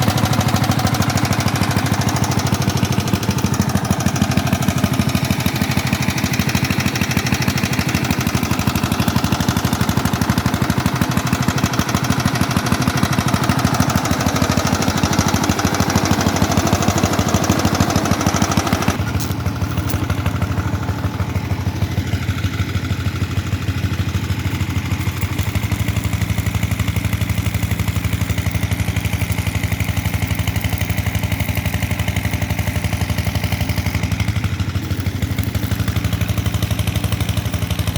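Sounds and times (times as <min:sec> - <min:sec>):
diesel generator engine running: 0:00.0 - 0:37.9.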